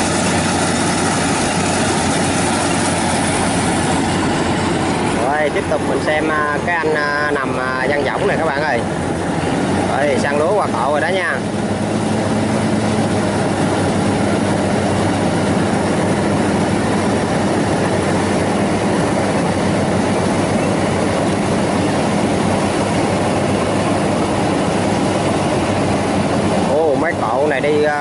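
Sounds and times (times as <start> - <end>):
threshing machinery rattle: 0.0 - 27.9
engine hum: 0.0 - 28.0.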